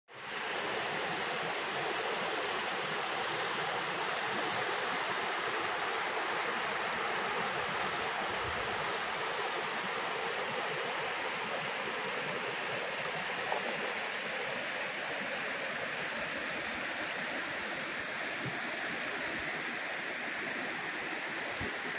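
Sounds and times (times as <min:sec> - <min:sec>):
flood water rushing and roaring: 0:00.2 - 0:21.9.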